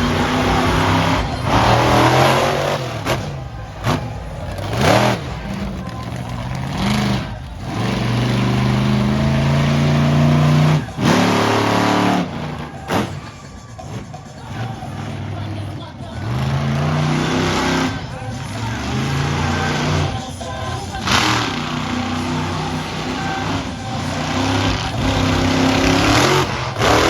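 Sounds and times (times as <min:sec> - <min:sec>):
monster truck engines revving: 0:00.0 - 0:27.0.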